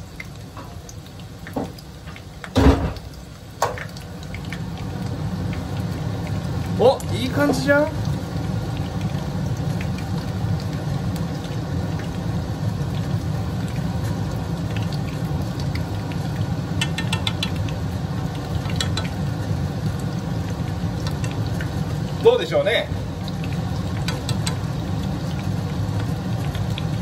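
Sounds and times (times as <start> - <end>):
chicken deep-frying in oil: 0.0 - 27.0
oil crackles and pops: 0.0 - 27.0.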